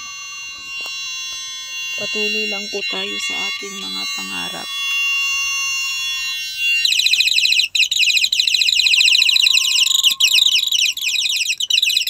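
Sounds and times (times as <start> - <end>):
high-pitched electronic alarm tone: 0.0 - 12.0.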